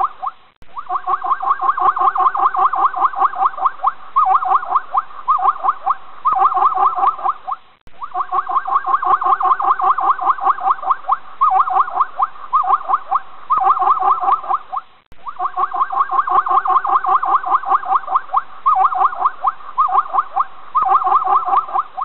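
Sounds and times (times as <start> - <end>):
zebra yelping barks: 0.0 - 22.0.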